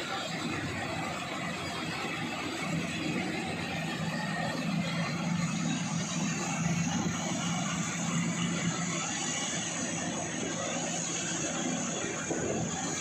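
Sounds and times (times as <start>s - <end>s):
engine hum: 0.0s - 13.0s
machinery clatter and whir: 0.0s - 13.0s.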